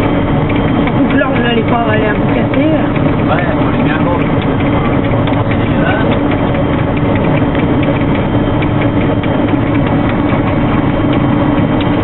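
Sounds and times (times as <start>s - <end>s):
combine harvester running: 0.0s - 12.0s
machinery clicking and clattering: 0.0s - 12.0s.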